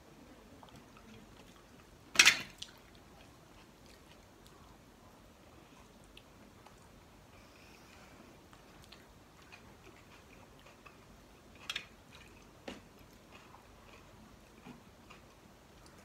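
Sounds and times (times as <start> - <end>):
faint chewing: 0.4 - 2.0, 2.6 - 16.0.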